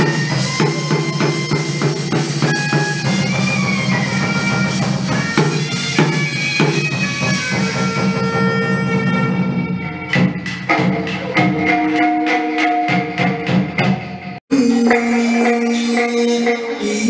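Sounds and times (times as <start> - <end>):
drum and percussion beats: 0.0 - 17.0.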